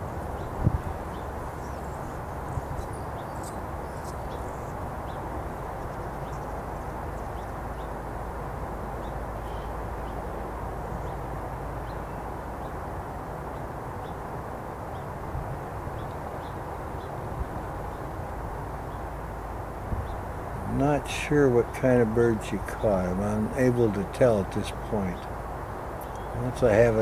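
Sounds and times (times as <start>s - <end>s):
low background rumble: 0.0s - 27.0s
small birds calling: 0.0s - 27.0s.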